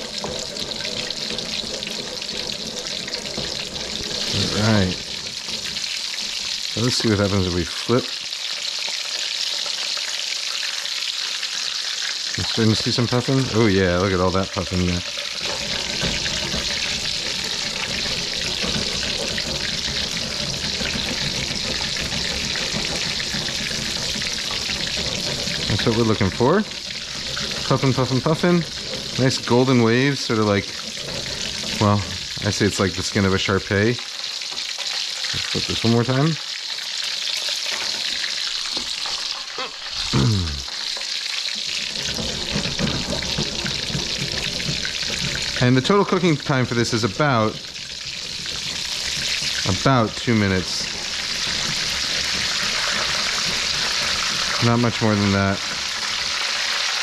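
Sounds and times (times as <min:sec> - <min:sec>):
cutlet sizzling in hot oil: 0:00.0 - 0:57.0.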